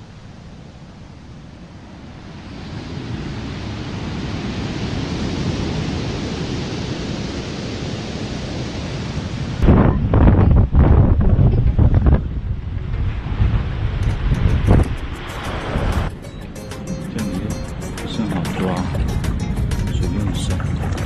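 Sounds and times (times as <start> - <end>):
sea surf: 0.0 - 21.0
wind: 0.0 - 21.0.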